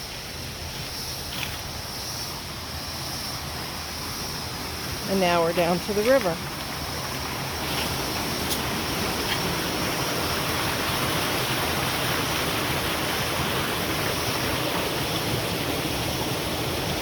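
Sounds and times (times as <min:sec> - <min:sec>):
river water rushing over rocks: 0:00.0 - 0:17.0.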